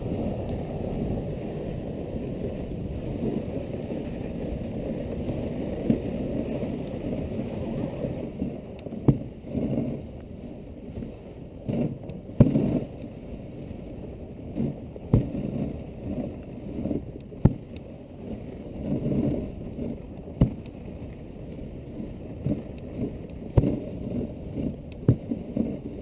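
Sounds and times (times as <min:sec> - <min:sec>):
sled runners scraping on snow: 0:00.0 - 0:26.0.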